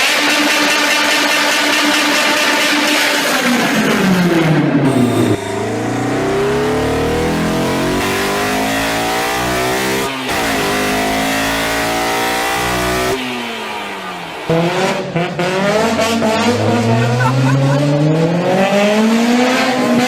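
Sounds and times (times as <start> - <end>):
car engine revving: 0.1 - 20.0.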